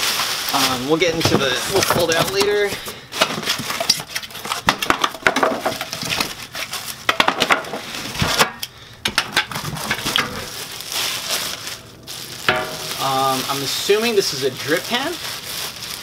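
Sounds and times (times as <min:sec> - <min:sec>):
cardboard scraping and rustling: 0:00.0 - 0:08.5, 0:09.4 - 0:16.0.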